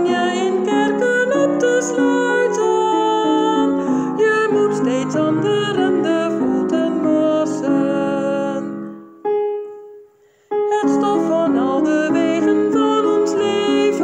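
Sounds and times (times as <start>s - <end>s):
hymn played on piano: 0.0s - 14.0s.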